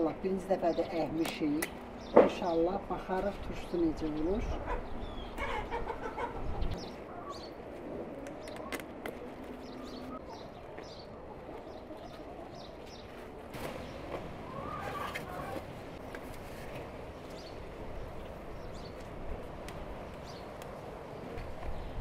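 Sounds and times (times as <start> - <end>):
small birds chirping: 0.5 - 16.3, 17.0 - 19.2, 19.9 - 22.0.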